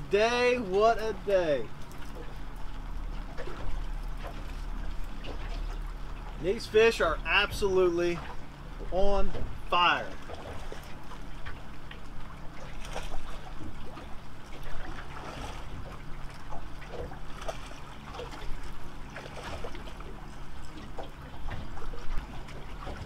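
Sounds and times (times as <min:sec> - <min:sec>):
waves lapping against boat hull: 0:00.0 - 0:23.0.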